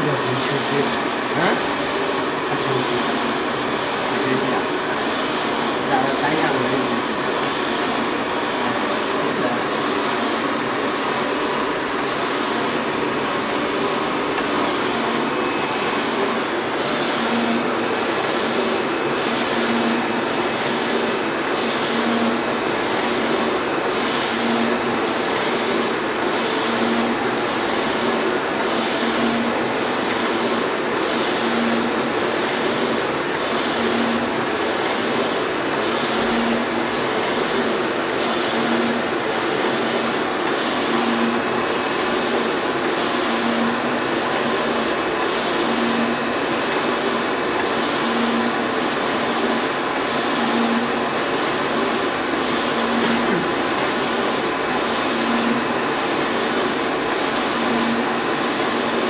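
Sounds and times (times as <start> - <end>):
printer carriage sweeping: 0.0 - 59.0.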